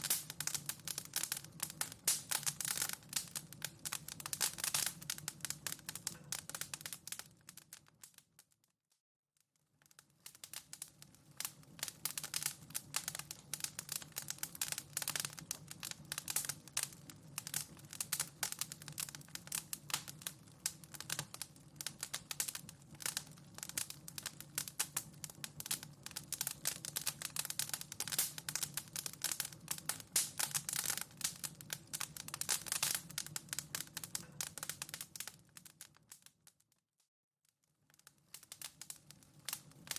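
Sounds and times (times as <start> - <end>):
wood fire crackling: 0.0 - 8.5, 9.7 - 36.6, 37.8 - 39.9.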